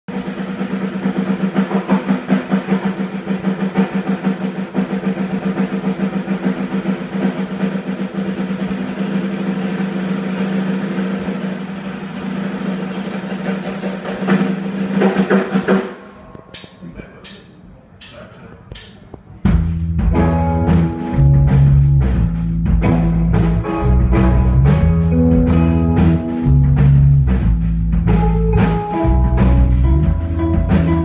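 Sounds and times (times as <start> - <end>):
rapid drumming with snare rolls: 0.1 - 16.0, 19.5 - 31.0.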